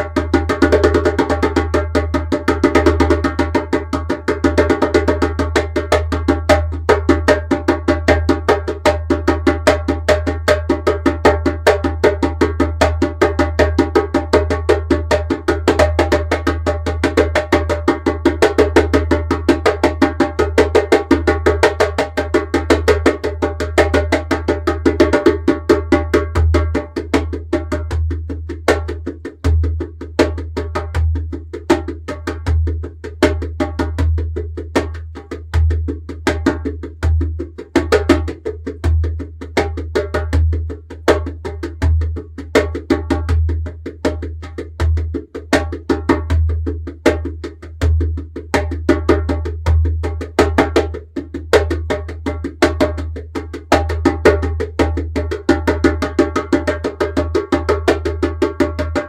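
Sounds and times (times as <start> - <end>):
djembe played by hand: 0.0 - 59.0.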